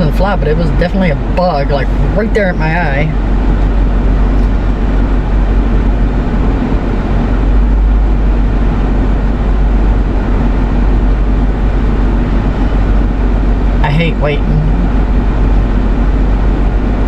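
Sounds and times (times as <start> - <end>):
air-conditioning blower running: 0.0 - 17.0
car engine idling: 0.0 - 17.0.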